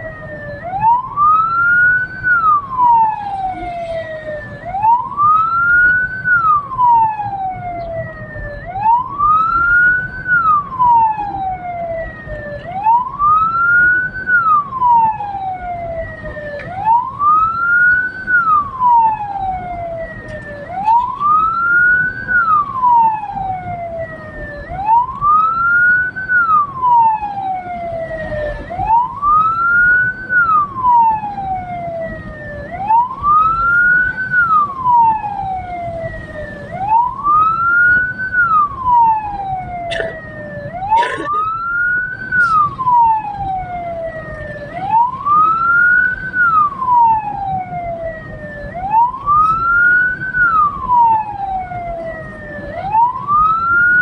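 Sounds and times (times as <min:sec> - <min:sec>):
electronic siren wailing: 0:00.0 - 0:54.0
vehicle road noise: 0:00.0 - 0:54.0.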